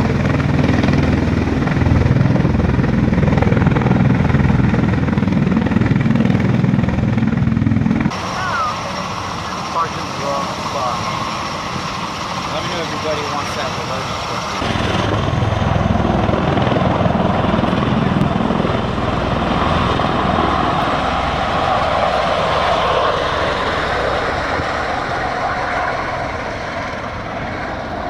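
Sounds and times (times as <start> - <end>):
tiltrotor aircraft flying by: 0.0 - 28.0.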